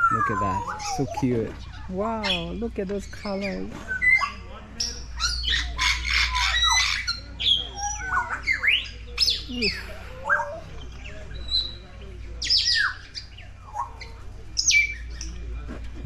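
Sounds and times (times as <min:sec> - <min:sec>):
birds whistling and chirping: 0:00.0 - 0:15.5.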